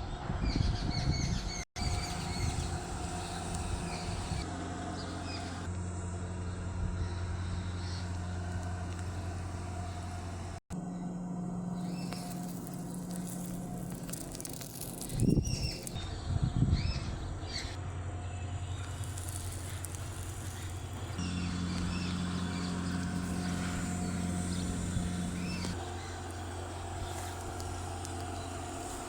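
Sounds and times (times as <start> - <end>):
birds chirping: 0.5 - 29.0
loud low rumbling bursts: 1.4 - 29.0
steady low hum: 1.8 - 29.0.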